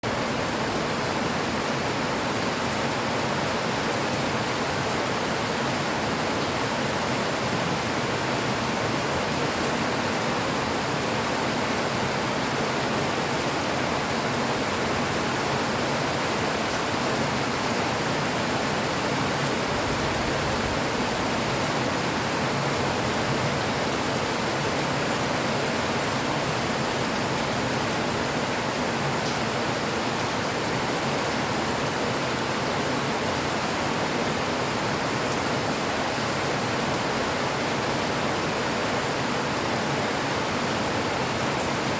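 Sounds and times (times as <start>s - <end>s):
steady rain: 0.0s - 41.9s.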